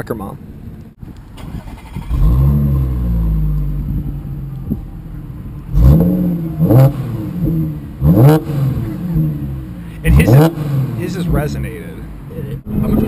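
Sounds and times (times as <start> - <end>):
car engine revving: 1.1 - 13.0.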